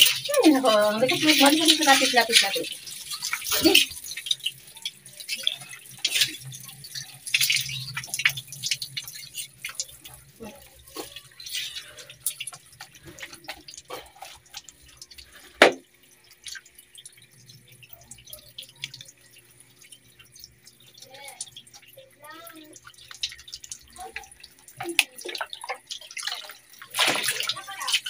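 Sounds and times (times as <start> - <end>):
hose water splashing and dripping: 0.0 - 28.0.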